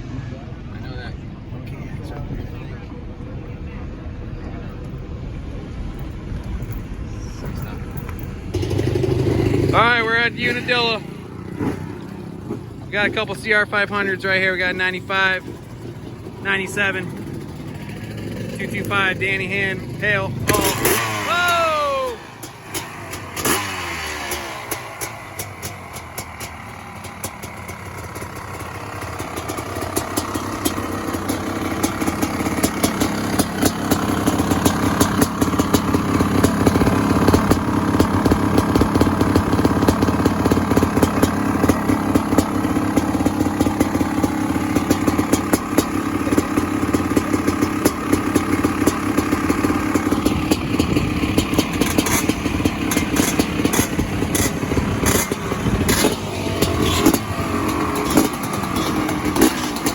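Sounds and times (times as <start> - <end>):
dirt bike engine running: 5.9 - 59.9.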